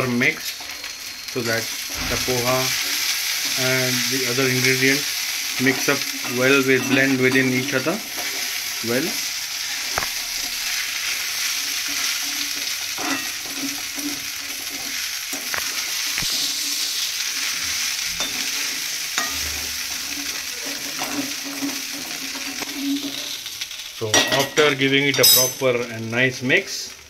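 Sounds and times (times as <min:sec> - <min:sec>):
food sizzling in a pan: 0:00.0 - 0:27.0
metal spoon scraping pan: 0:00.4 - 0:25.5.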